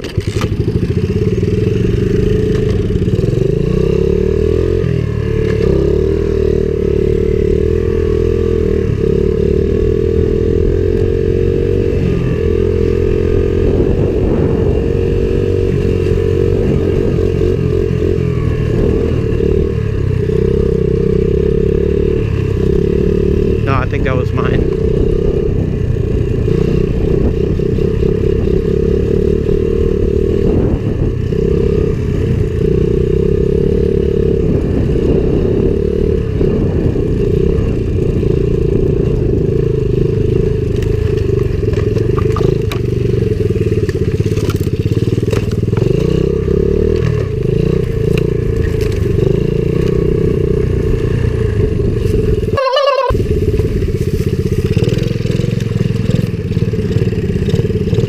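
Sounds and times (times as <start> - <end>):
small motorbike engine running: 0.0 - 58.0.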